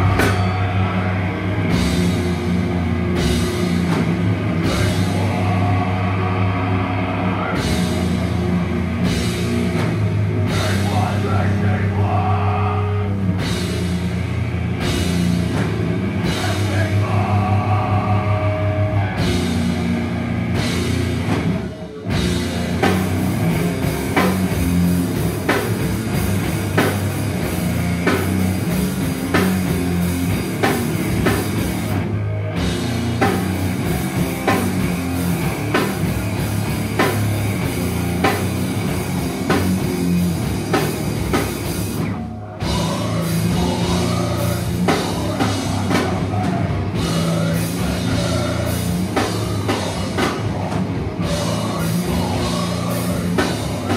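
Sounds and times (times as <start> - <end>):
distorted electric guitars: 0.0 - 53.9
drum kit: 0.0 - 53.9
metal band playing live: 0.0 - 53.9.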